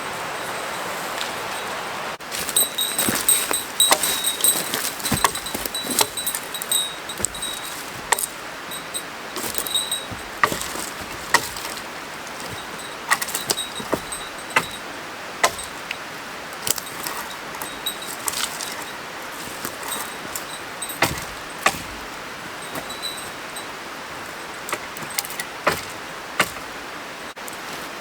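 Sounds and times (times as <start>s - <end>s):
light metallic jingle: 0.0s - 27.4s
gear clicking and knocking: 2.4s - 16.0s, 16.6s - 27.3s.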